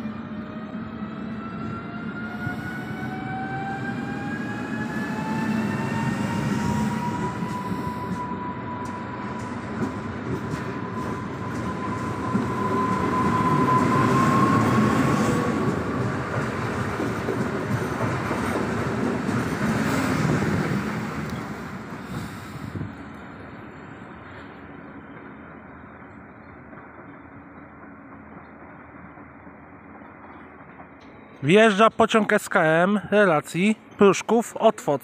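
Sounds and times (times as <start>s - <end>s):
train running noise: 0.0s - 35.0s.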